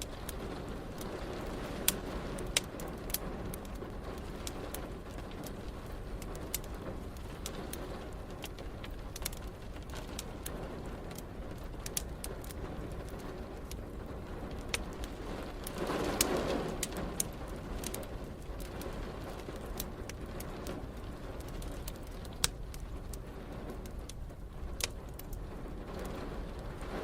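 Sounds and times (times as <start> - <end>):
rain hissing: 0.0 - 23.8, 25.4 - 27.0
wood fire crackling: 0.0 - 27.0.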